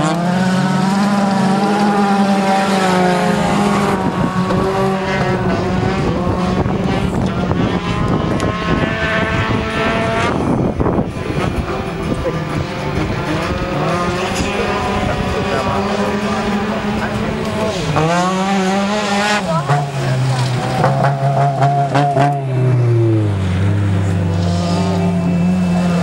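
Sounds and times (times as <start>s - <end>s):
race car engines revving: 0.0s - 26.0s.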